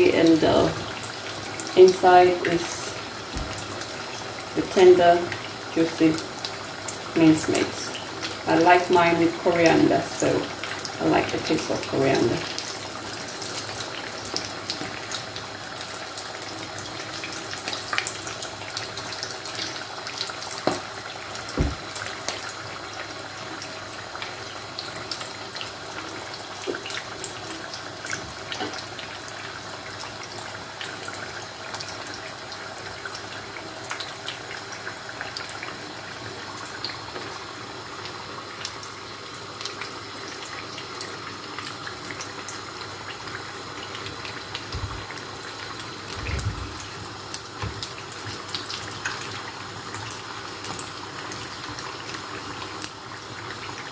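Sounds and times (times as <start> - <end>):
oil sizzling and bubbling: 0.0 - 53.9.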